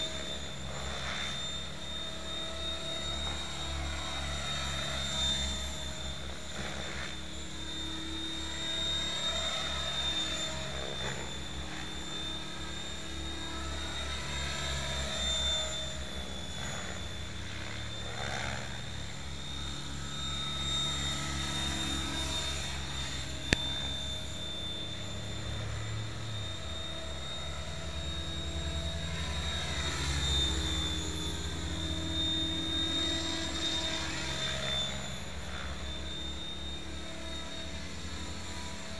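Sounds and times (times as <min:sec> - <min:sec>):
helicopter rotor fluttering: 0:00.0 - 0:38.9
motor whine rising and falling: 0:00.0 - 0:38.9.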